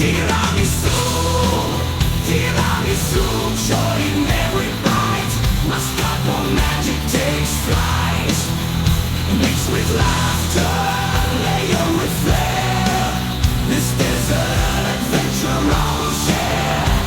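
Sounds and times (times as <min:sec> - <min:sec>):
bass guitar: 0:00.0 - 0:17.0
distorted electric guitars: 0:00.0 - 0:17.0
drums: 0:00.0 - 0:17.0.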